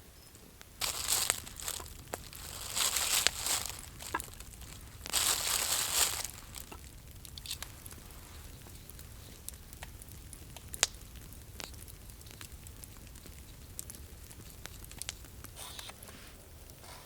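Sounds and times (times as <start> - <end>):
small crackles and sharp pops: 0.0 - 16.8
dry material rustling and crinkling: 0.8 - 16.3.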